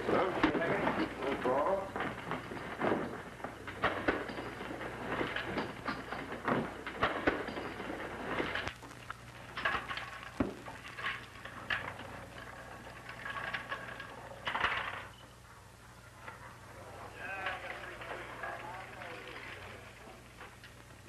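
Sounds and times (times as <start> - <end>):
film soundtrack hum: 0.0 - 21.0.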